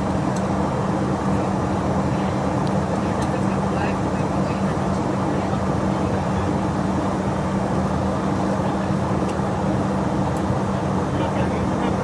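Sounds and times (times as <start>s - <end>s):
jet airliner engines droning: 0.0s - 12.0s.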